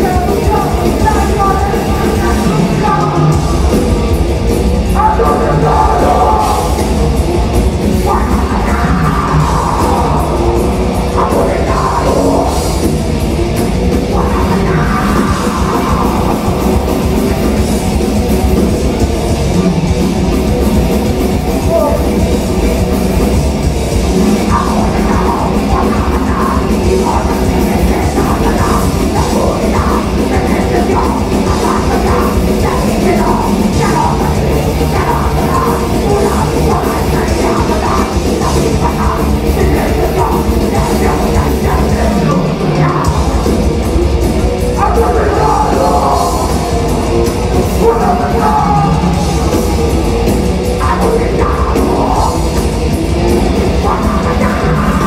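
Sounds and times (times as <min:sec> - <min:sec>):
heavy metal band playing live: 0:00.0 - 0:55.0.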